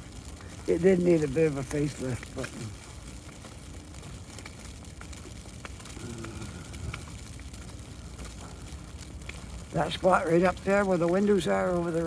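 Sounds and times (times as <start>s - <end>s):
low outdoor rumble: 0.0s - 12.0s
wet snow ticking on umbrella: 0.0s - 12.0s.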